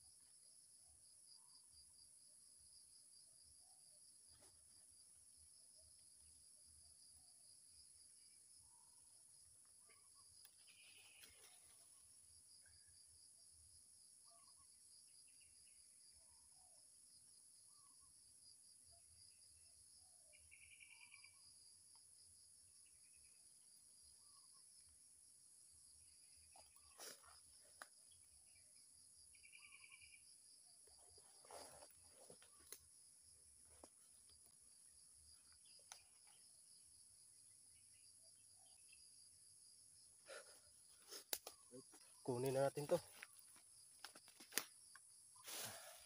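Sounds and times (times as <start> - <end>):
insect chorus: 0.0 - 46.0.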